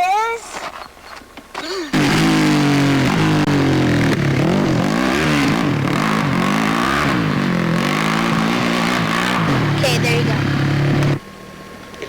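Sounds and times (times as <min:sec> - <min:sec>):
motorcycle engine revving: 0:01.9 - 0:12.0.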